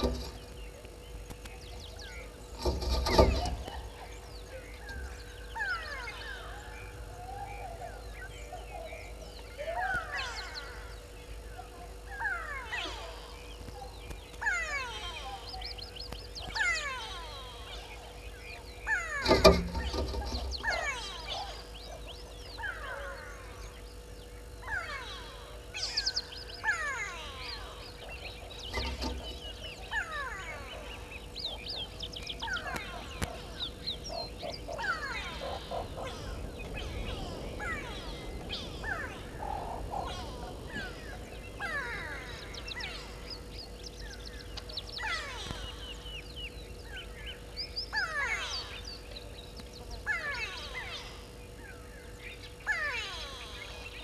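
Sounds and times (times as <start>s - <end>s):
birds whistling and chirping: 0.0s - 54.0s.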